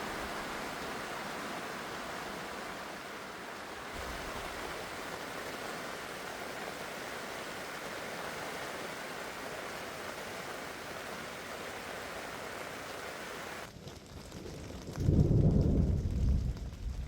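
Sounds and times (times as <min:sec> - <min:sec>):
heavy rain falling: 0:00.0 - 0:13.7, 0:14.8 - 0:17.0.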